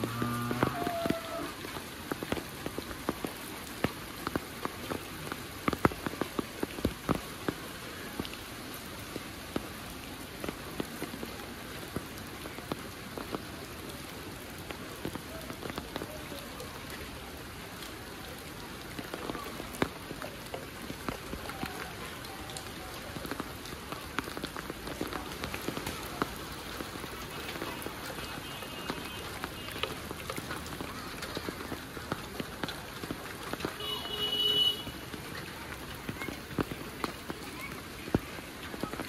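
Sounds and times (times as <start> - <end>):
large raindrops ticking: 0.0 - 39.0
steady rain hissing: 0.0 - 39.0.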